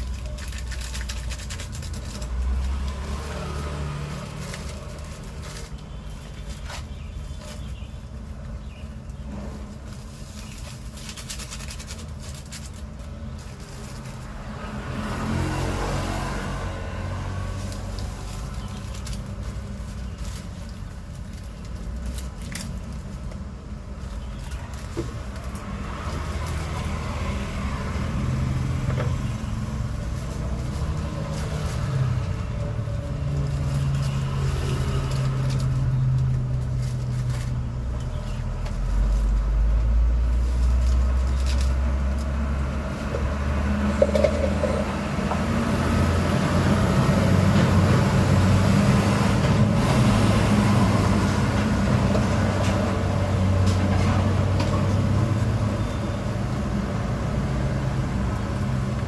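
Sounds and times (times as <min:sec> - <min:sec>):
vehicle engines humming: 0:00.0 - 0:59.0.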